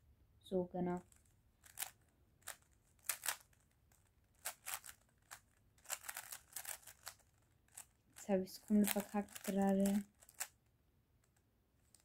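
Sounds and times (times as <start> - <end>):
puzzle cube clicking: 1.0 - 10.6, 11.2 - 12.0.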